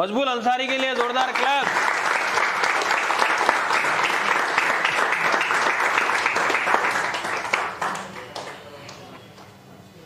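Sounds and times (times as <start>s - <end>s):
crowd applauding: 0.6s - 9.1s.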